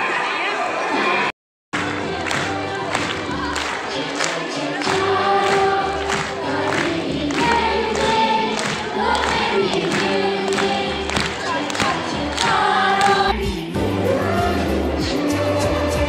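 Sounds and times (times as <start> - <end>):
choir-like vocals over beat: 1.8 - 16.0.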